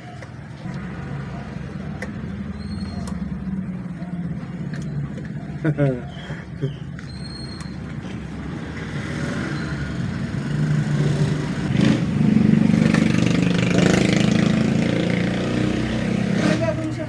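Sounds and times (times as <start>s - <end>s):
engine running: 0.2s - 17.0s.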